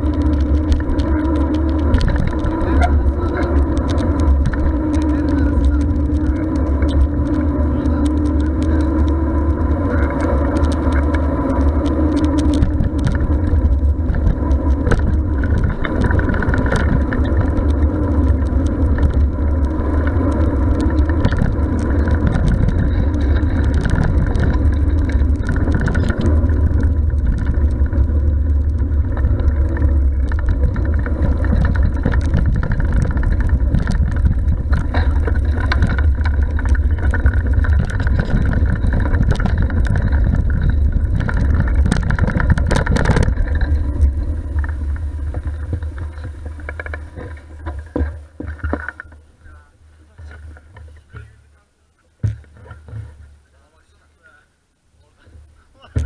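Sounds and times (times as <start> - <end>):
wind rumble on microphone: 0.0 - 51.6
bicycle tyre and road noise: 0.0 - 56.0.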